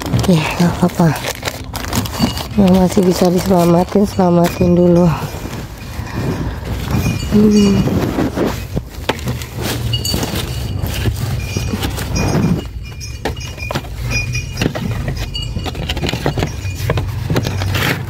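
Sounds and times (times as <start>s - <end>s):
hands rustling plants: 0.0s - 18.0s.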